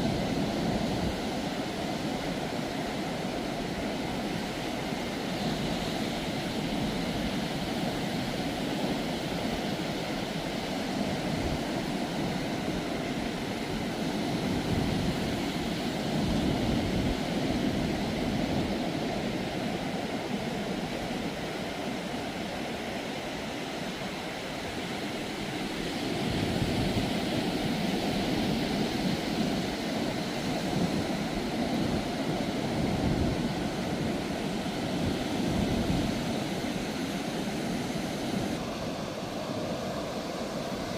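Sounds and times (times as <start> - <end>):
ocean surf breaking: 0.0 - 40.9.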